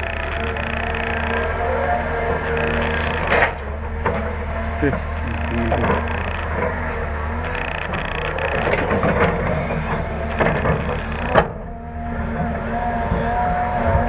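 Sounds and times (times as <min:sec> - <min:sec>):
excavator diesel engine running: 0:00.0 - 0:14.0
wavering whine: 0:00.0 - 0:14.0
clatter and knocks of digging: 0:00.1 - 0:11.6.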